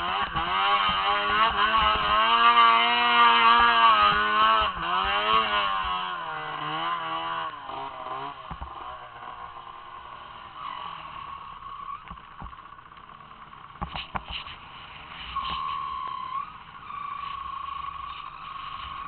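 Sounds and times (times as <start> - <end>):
snowmobile engine revving: 0.0 - 12.1, 13.2 - 19.0.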